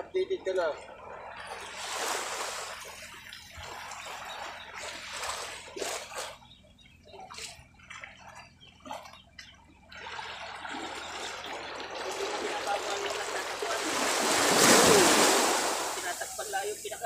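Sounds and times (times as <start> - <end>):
water lapping against boat hull: 0.5 - 17.0.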